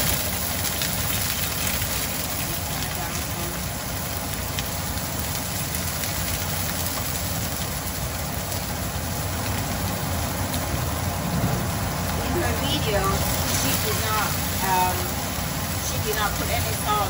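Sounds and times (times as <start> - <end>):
exhaust fan droning: 0.0 - 17.0
onions sizzling in hot oil: 0.0 - 17.0.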